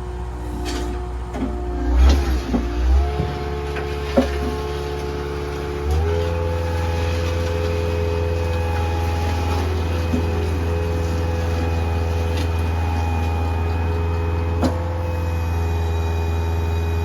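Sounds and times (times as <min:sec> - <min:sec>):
heavy equipment engine running: 0:00.0 - 0:17.0.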